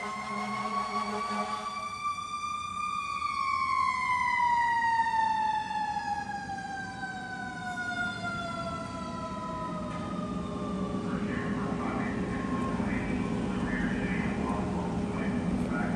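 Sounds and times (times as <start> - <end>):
fire engine siren winding down: 0.0 - 15.6.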